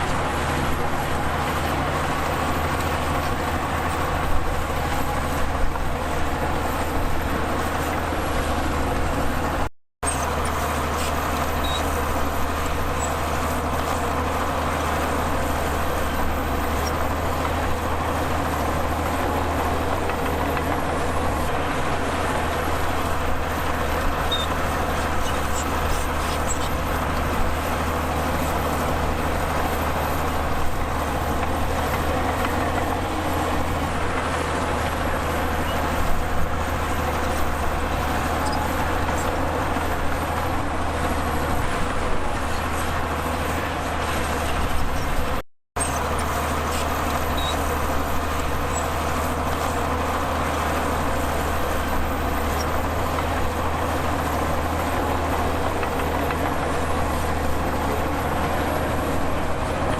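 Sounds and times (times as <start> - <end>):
diesel earthmoving machinery running: 0.0 - 59.9.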